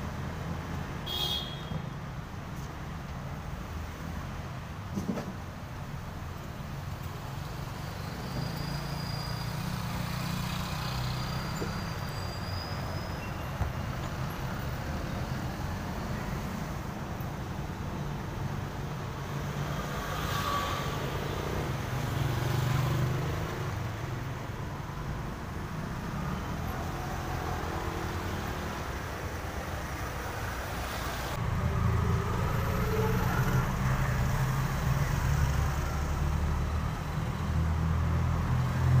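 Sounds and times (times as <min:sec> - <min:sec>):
road traffic engine rumble: 0:00.0 - 0:39.0.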